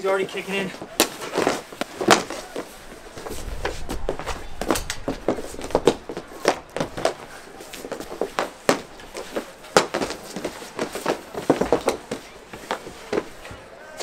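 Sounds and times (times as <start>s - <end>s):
hockey sticks clacking on puck: 0.0s - 2.8s, 4.7s - 14.0s.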